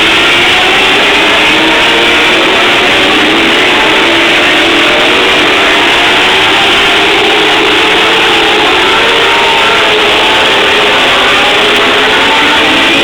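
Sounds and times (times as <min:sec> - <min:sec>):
race car engines lapping: 0:00.0 - 0:13.0.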